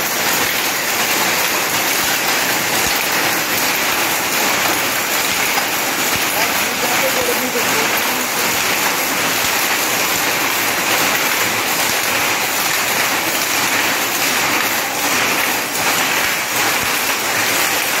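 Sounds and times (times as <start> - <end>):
power looms clattering: 0.0 - 18.0.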